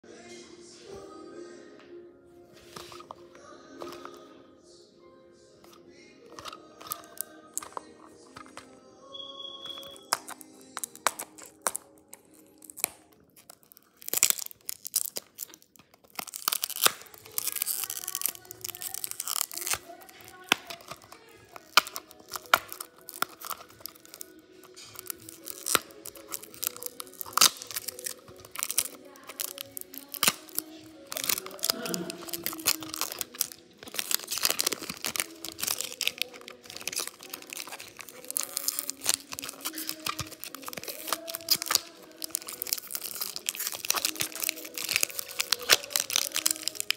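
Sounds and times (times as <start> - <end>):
background music: 0.0 - 46.9
plastic shrink-wrap crinkling and tearing: 2.6 - 4.2, 5.6 - 46.9.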